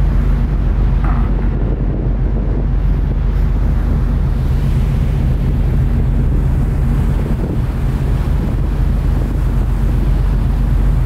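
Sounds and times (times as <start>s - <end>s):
sea wash: 0.0s - 11.0s
wind buffeting microphone: 0.0s - 11.0s.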